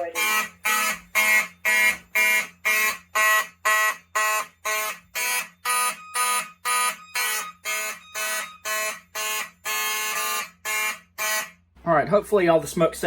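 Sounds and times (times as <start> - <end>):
fire alarm horns pulsing: 0.0 - 11.7.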